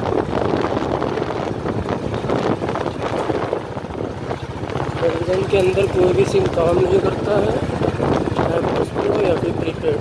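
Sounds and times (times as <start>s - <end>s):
vehicle body knocking and rattling: 0.0s - 10.0s
vehicle engine running: 0.0s - 10.0s.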